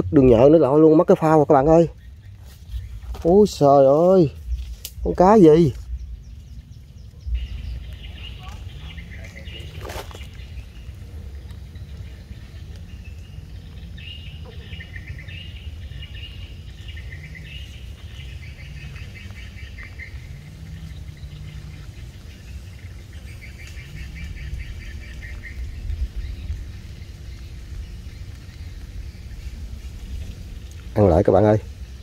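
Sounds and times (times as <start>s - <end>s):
low rumble: 0.0s - 32.0s
small birds trilling: 0.0s - 32.0s.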